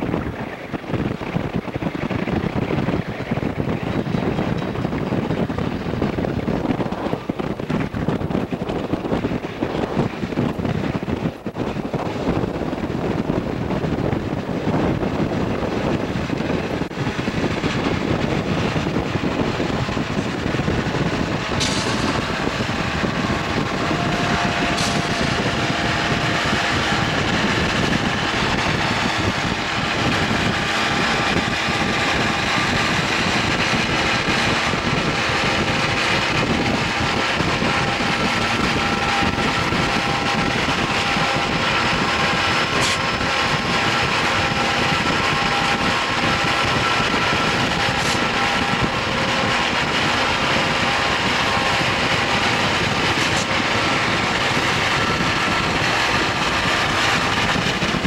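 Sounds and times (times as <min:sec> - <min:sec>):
brake grid fans whining: 0:00.0 - 0:58.0
diesel locomotives roaring: 0:00.0 - 0:58.0.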